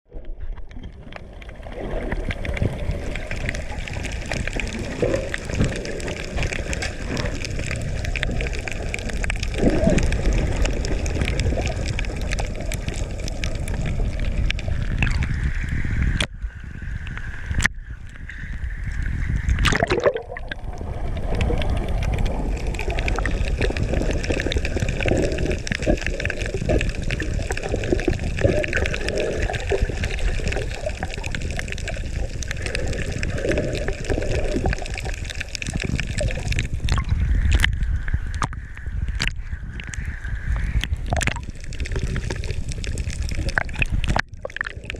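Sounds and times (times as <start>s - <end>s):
water sloshing and gurgling: 0.0s - 44.9s
swooping water rush: 0.6s - 16.3s, 19.4s - 44.9s.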